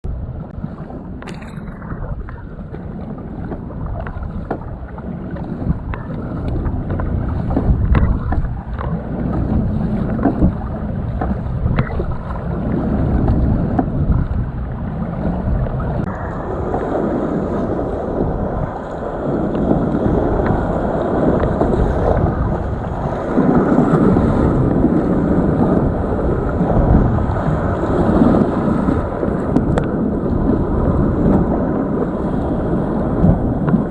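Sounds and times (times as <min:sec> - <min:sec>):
water splashing around kayak: 0:00.0 - 0:33.9
wind buffeting microphone: 0:00.0 - 0:33.9.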